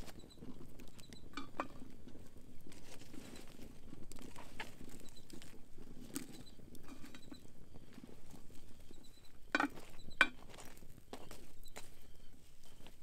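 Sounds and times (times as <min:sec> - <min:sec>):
campfire crackling and popping: 0:00.0 - 0:11.9.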